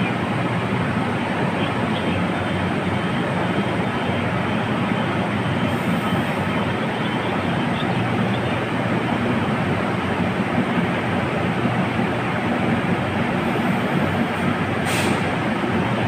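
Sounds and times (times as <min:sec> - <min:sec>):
electric train rail noise: 0:00.0 - 0:16.0.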